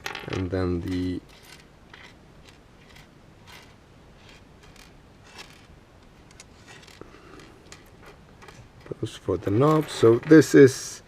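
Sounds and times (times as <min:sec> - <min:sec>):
small parts clicking on a table: 0:00.0 - 0:10.6
rustling: 0:00.0 - 0:10.8.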